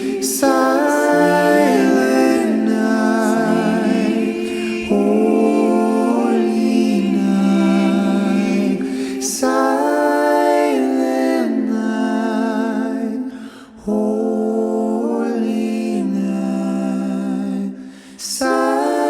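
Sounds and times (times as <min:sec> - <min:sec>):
singing with vibrato: 0:00.0 - 0:19.0.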